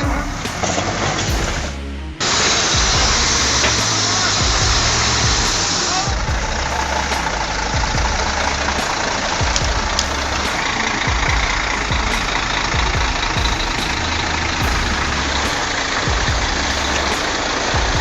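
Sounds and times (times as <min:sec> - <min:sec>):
heavy vehicle engine running: 0:00.0 - 0:18.0
music with beat and bass: 0:00.0 - 0:18.0.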